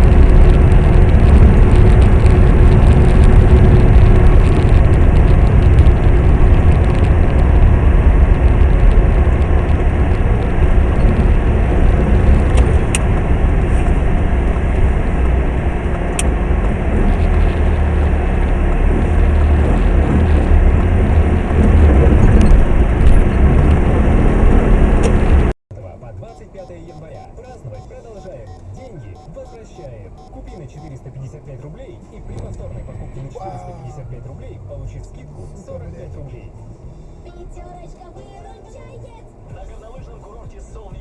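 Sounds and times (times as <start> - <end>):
car road and engine noise: 0.0 - 41.0.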